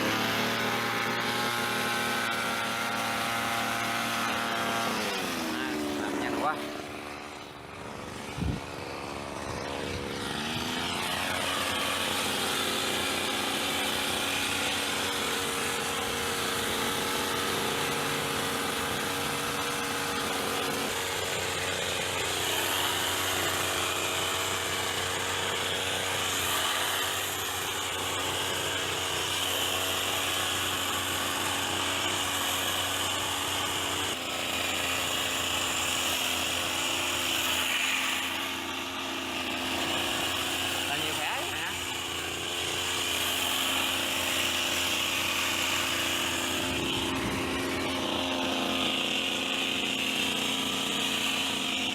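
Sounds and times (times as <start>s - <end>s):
hedge trimmer engine revving: 0.0s - 51.9s.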